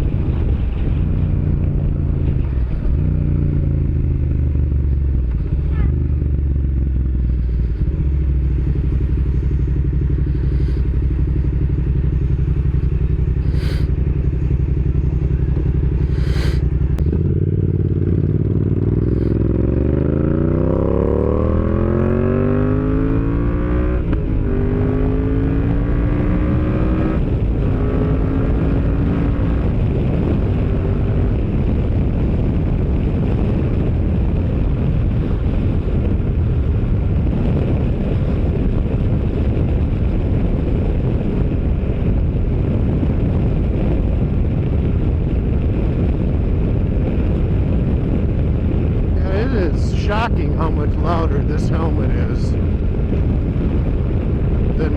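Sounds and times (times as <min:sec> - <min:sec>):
motorcycle engine revving: 0:00.0 - 0:54.9
wind noise: 0:00.0 - 0:54.9.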